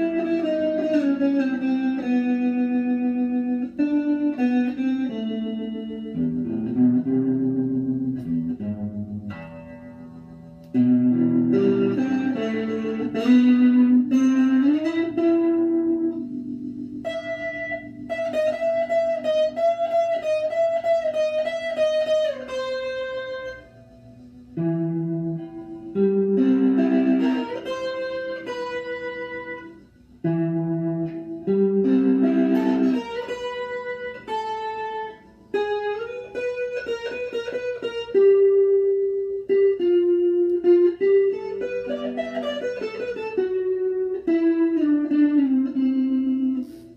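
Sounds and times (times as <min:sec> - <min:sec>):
solo electric guitar: 0:00.0 - 0:46.9.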